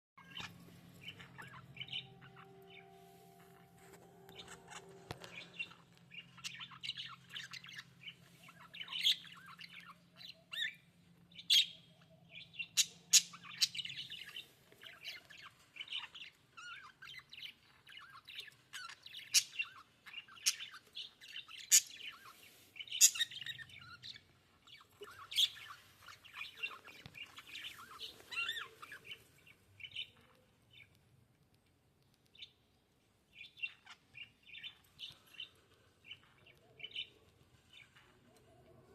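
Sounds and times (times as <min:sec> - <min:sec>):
budgerigars chirping and chattering: 0:00.2 - 0:31.0, 0:33.3 - 0:38.9.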